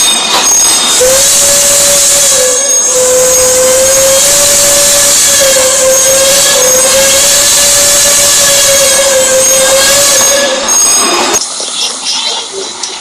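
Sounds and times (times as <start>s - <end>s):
steam locomotive whistle: 0.0s - 11.4s
steam hissing: 0.0s - 13.0s.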